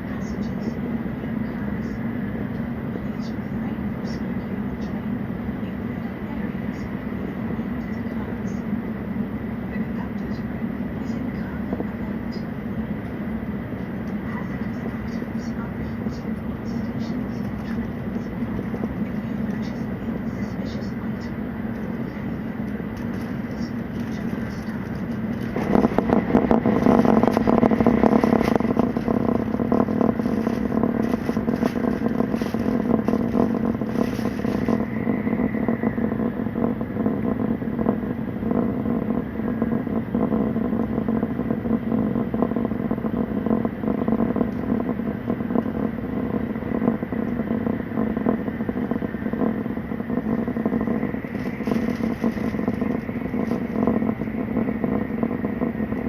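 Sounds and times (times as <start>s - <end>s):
train rumble from inside: 0.0s - 56.0s.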